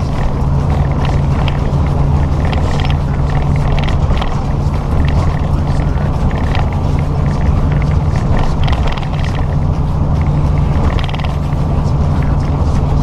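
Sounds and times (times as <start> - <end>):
road noise: 0.0 - 13.0
truck engine droning: 0.0 - 13.0.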